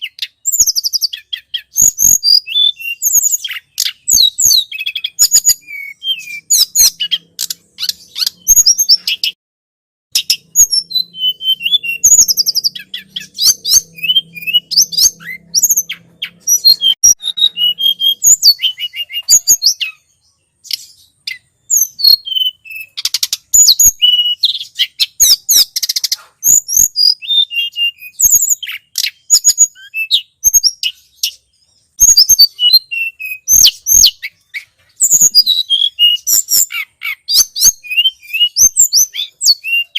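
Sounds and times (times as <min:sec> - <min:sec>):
songbird chirping and trilling: 0:00.0 - 0:09.4, 0:10.1 - 0:39.9.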